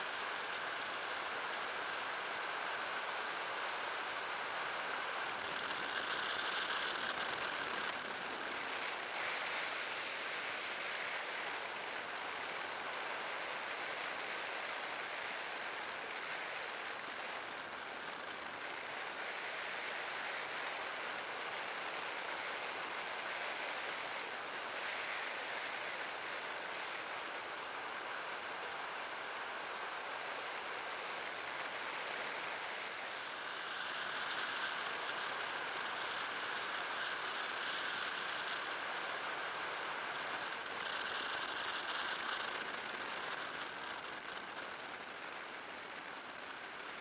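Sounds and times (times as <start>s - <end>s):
electric trike rushing noise: 0.0s - 47.0s
faint high electric whine: 0.0s - 47.0s.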